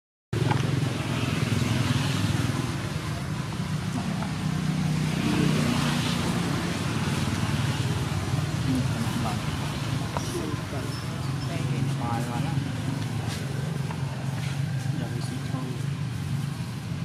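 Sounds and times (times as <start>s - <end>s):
engine running steadily: 0.4s - 17.0s.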